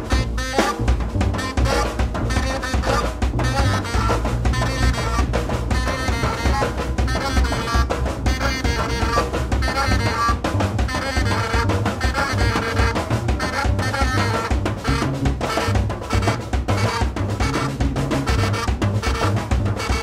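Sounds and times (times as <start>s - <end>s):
bass line: 0.0s - 20.0s
drum kit strokes: 0.0s - 20.0s
saxophone wavering lines: 0.0s - 20.0s.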